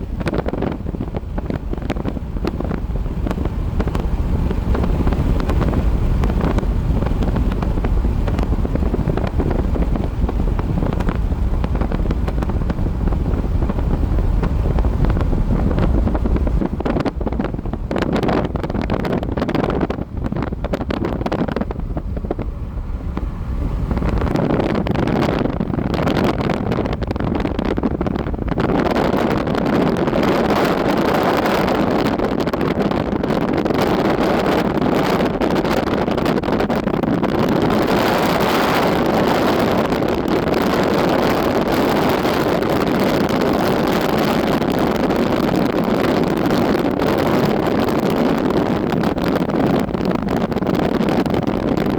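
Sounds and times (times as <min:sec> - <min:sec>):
wind blowing in gusts: 0:00.0 - 0:51.9
wind buffeting microphone: 0:00.0 - 0:51.9.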